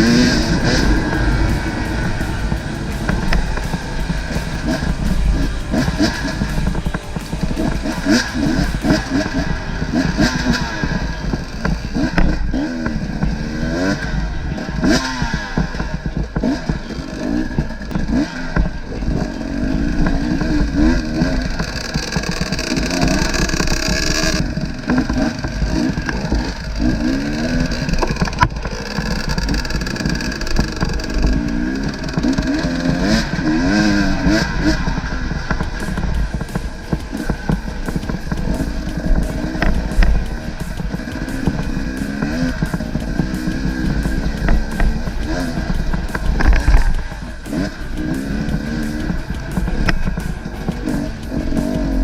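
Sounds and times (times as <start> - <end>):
low rumble: 0.0 - 50.6
motorcycle engine revving: 0.0 - 52.0.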